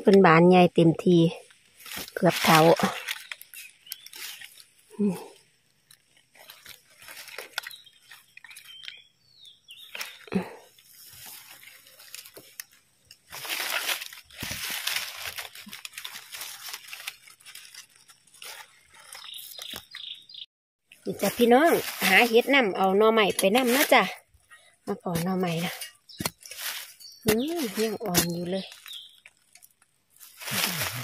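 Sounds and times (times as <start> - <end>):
dry leaves crunching: 1.5 - 20.4, 21.1 - 31.0.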